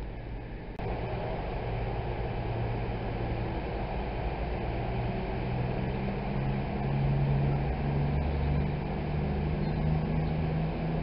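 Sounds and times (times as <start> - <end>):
diesel train engines droning: 0.0 - 11.0.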